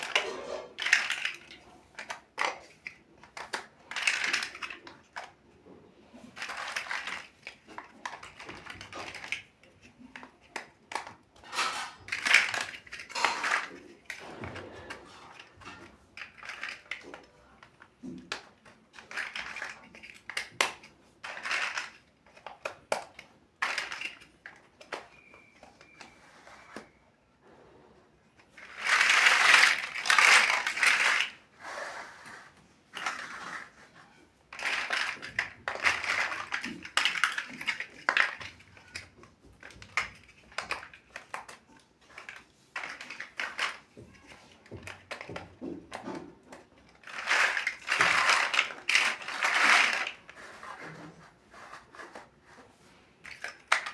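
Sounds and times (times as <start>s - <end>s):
plastic blocks clicking and rattling: 0.0s - 27.0s, 28.1s - 53.9s.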